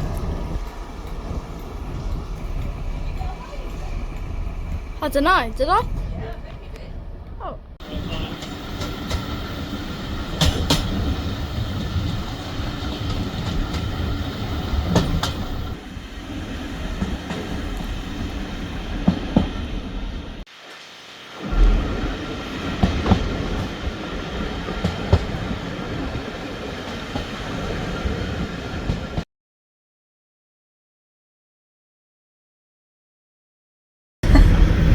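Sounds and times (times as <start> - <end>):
train rumbling on rails: 0.0 - 20.5, 21.2 - 29.2, 34.2 - 34.9.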